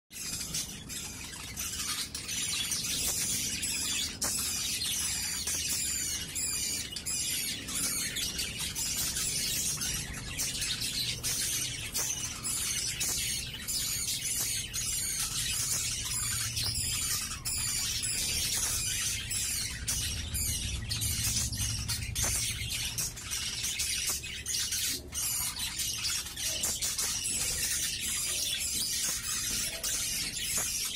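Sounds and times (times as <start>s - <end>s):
budgerigars chirping: 0.1s - 30.9s.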